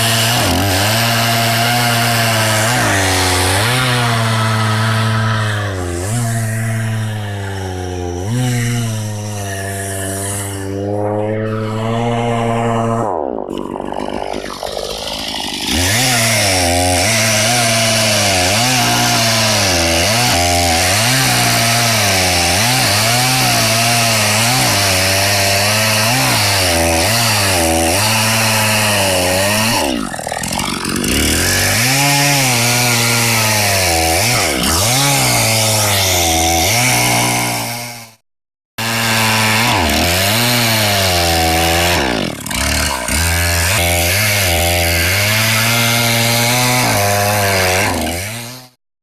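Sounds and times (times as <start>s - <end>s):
chainsaw cutting: 0.0s - 38.2s, 38.8s - 48.8s.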